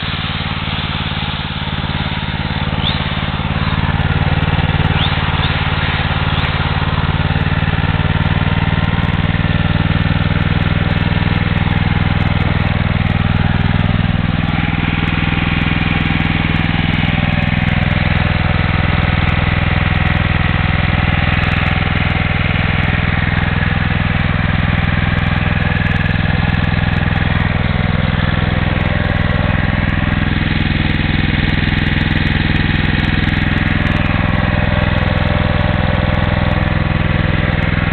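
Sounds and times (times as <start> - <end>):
generator engine running: 0.0 - 37.9.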